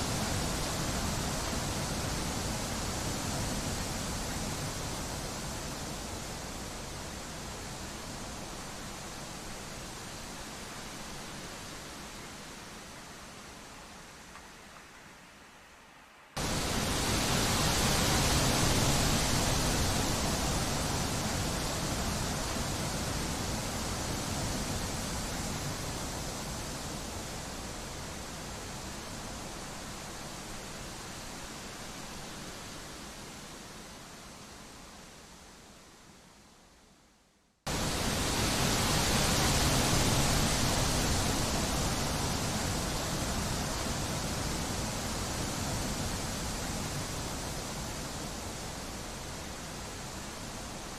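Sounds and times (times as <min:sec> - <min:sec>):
wind blowing through trees: 0:00.0 - 0:50.9.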